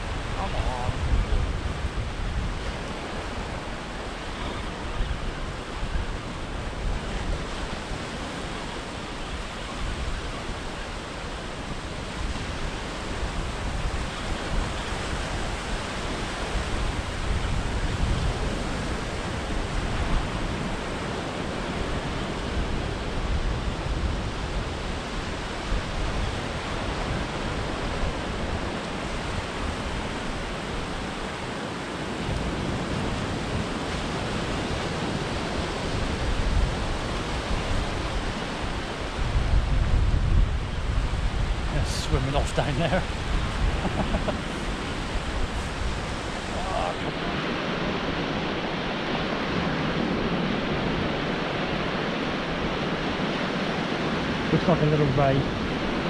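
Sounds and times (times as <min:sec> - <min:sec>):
small waves breaking on beach: 0:00.0 - 0:56.0
wind rumbling on microphone: 0:00.0 - 0:56.0.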